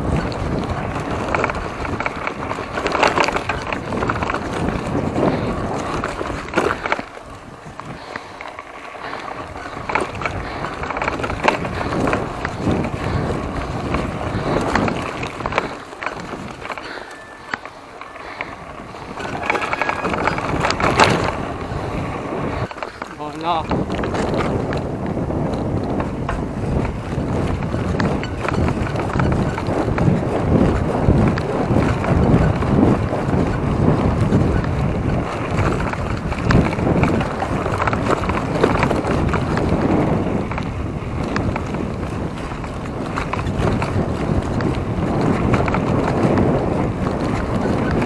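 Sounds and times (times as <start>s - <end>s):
bike knocking and rattling: 0.0s - 48.0s
bike tyres on dirt: 0.0s - 48.0s.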